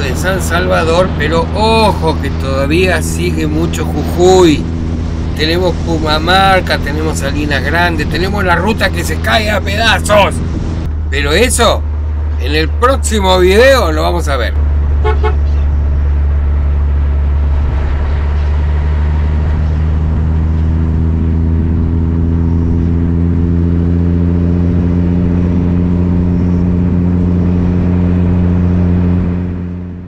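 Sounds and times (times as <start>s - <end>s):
car engine cruising: 0.0s - 30.0s
road noise: 0.0s - 30.0s.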